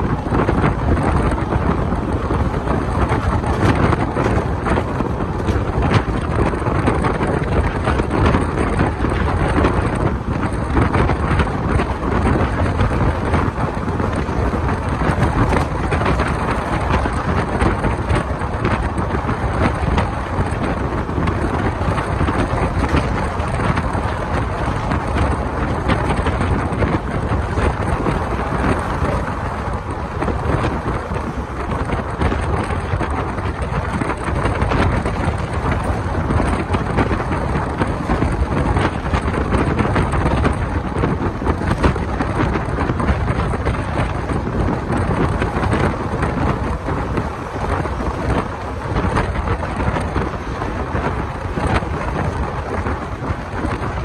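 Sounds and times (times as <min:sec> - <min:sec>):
train wheels rumbling on rails: 0:00.0 - 0:54.0
wind buffeting microphone: 0:00.0 - 0:54.0.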